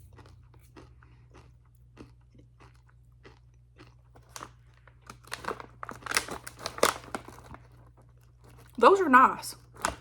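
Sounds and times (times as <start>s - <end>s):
person chewing crunchy candy: 0.0s - 8.8s.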